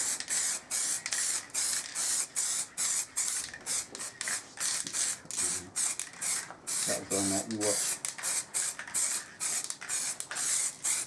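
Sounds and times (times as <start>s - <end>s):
spray paint can hissing: 0.0s - 11.0s.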